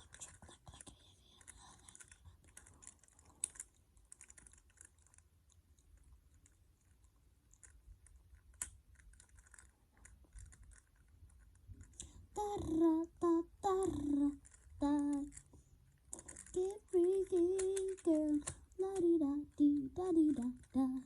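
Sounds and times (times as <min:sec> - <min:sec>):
puzzle cube clicking: 0:00.0 - 0:21.0.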